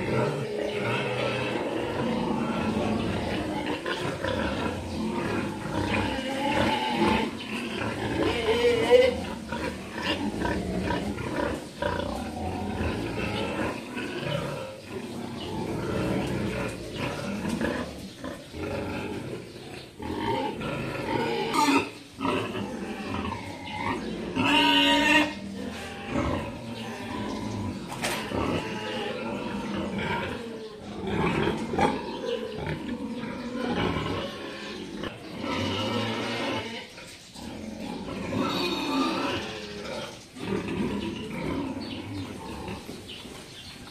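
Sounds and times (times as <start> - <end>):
pigs grunting: 0.0 - 43.9.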